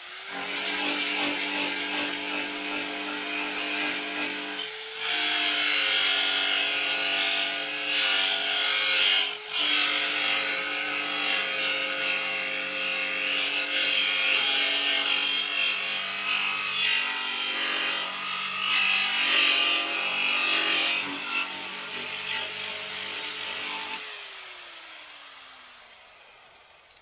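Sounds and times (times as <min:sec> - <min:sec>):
power tool motor whine: 0:00.0 - 0:27.0.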